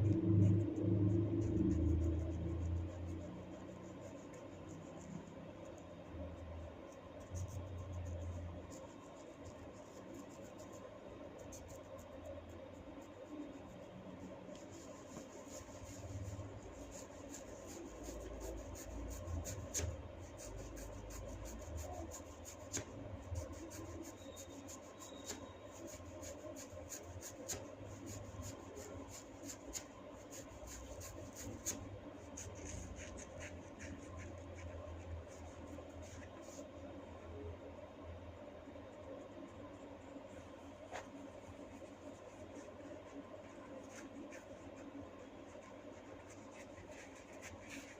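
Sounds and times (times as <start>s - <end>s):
fingers rubbing through hair: 0.2s - 5.8s, 6.9s - 36.8s, 40.7s - 47.9s.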